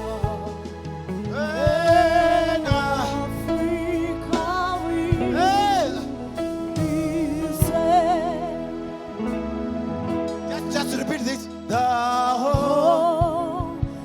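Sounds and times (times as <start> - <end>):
instrumental accompaniment: 0.0 - 14.0
person singing with vibrato: 0.0 - 14.0.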